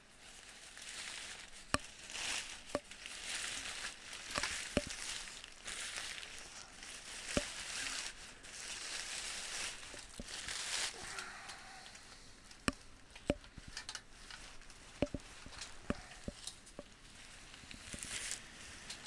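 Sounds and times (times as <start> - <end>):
rustling and scraping: 0.2 - 19.0.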